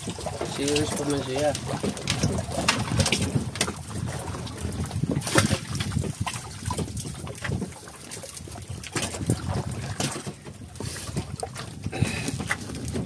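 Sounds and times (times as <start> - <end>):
water splashing against boat hull: 0.0 - 13.0
wind rumble on microphone: 0.0 - 13.0.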